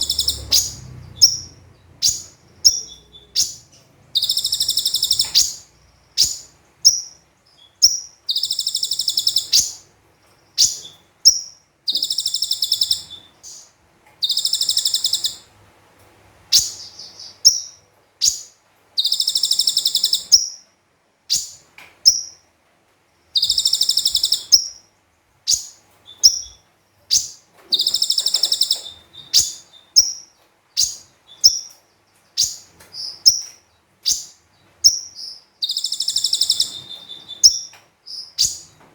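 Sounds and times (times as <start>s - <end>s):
bird trills and chirps: 0.0s - 15.5s, 16.5s - 22.5s, 23.3s - 38.8s
sunbird singing: 0.0s - 15.5s, 16.5s - 22.4s, 23.3s - 24.9s, 25.5s - 38.8s.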